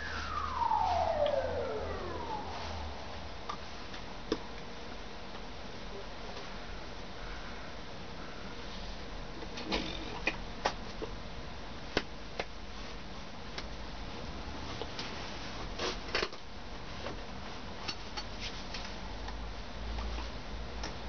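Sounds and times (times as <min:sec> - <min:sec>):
background hiss and hum: 0:00.0 - 0:21.0.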